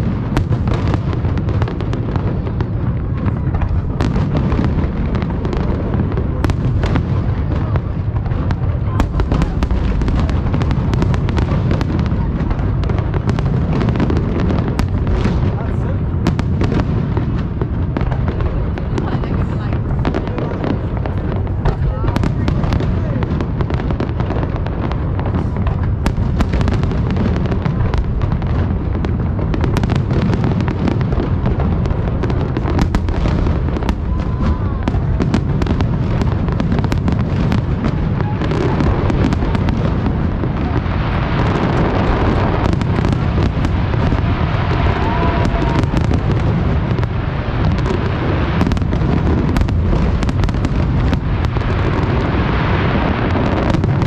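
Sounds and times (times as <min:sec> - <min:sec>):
firework pops and crackling: 0:00.0 - 0:54.0
firework shells booming: 0:00.0 - 0:54.0.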